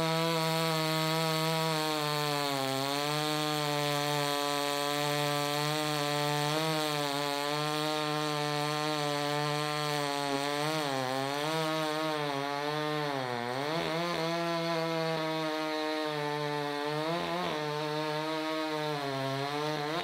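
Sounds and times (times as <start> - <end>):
chainsaw cutting log: 0.0 - 20.0.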